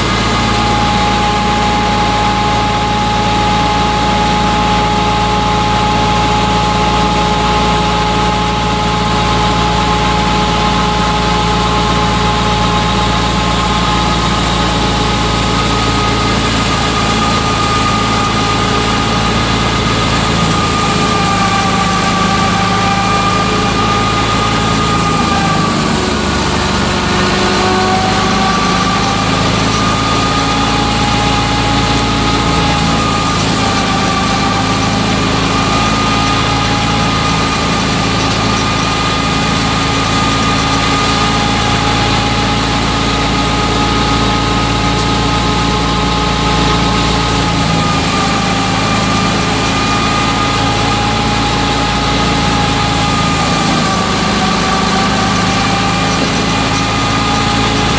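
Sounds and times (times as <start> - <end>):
machine whine: 0.0 - 57.9
threshing machine running: 0.0 - 57.9.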